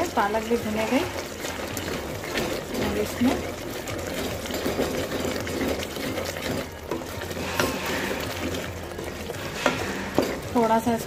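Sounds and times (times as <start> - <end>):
food bubbling and sizzling in pot: 0.0 - 11.0.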